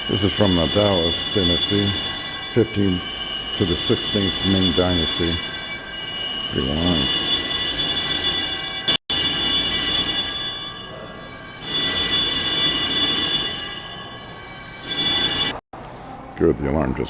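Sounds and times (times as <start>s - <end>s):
fire alarm bell ringing: 0.0s - 15.6s.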